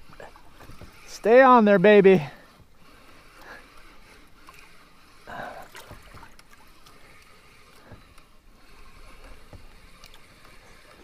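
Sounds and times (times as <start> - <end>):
water lapping against hull: 0.0 - 11.0.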